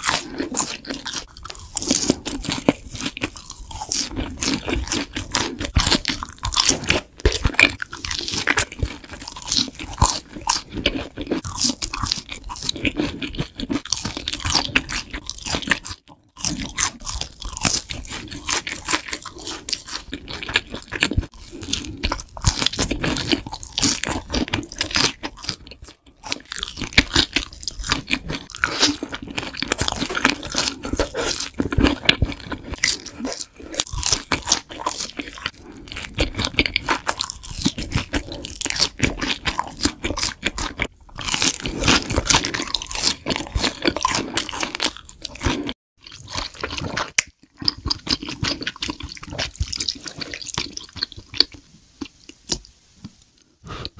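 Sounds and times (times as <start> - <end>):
crunching crispy fried food: 0.0 - 53.9.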